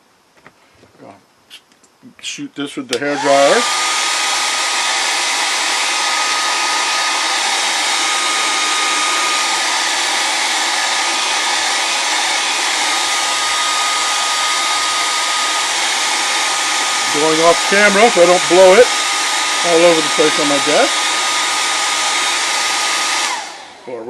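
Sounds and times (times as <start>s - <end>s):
hair dryer running: 3.0s - 24.0s.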